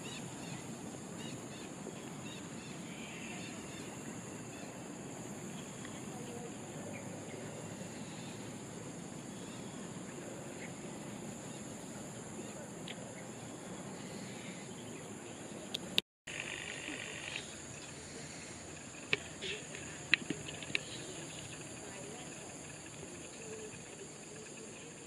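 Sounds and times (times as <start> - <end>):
high insect drone: 0.0 - 15.7, 16.3 - 25.0.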